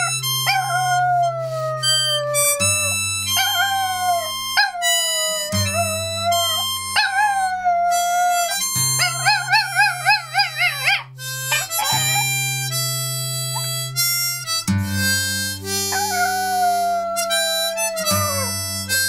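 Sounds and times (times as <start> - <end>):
dog howling: 0.0 - 12.5, 15.8 - 18.9
harmonica chords: 0.0 - 19.0.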